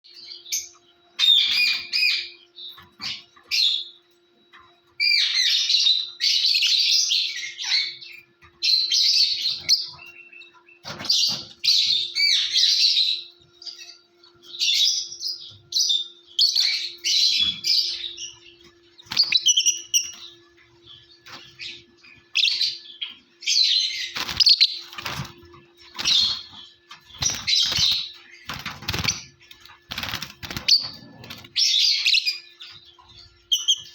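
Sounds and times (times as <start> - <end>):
lovebirds chirping: 4.9 - 33.9.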